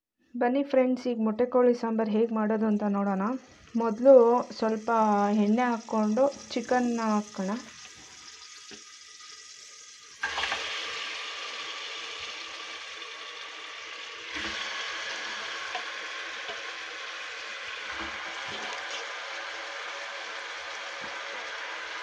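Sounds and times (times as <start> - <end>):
hot oil sizzling: 3.3 - 22.0
chicken frying loudly in oil: 3.6 - 22.0.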